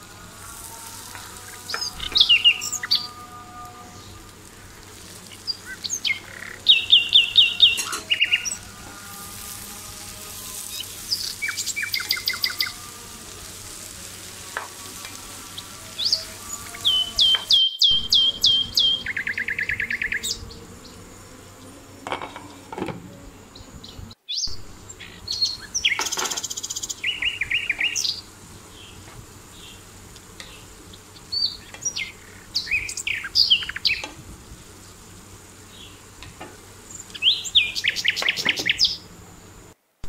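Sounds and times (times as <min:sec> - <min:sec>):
songbirds chirping and trilling: 0:00.0 - 0:39.7.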